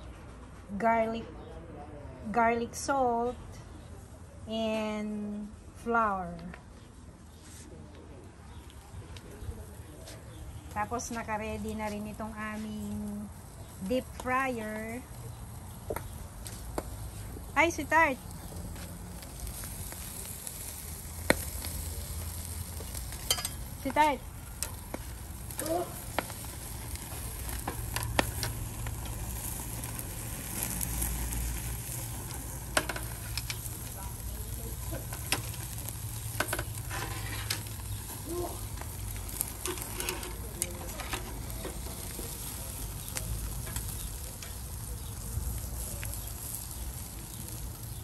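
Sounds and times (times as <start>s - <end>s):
crackles and pops: 8.5s - 48.0s
fish sizzling on a grill: 8.5s - 48.0s.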